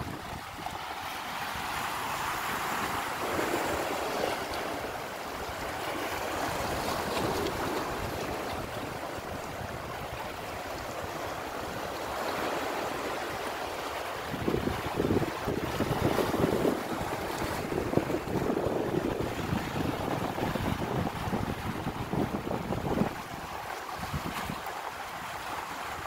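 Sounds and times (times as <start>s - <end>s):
waves splashing over rocks: 0.0s - 26.0s.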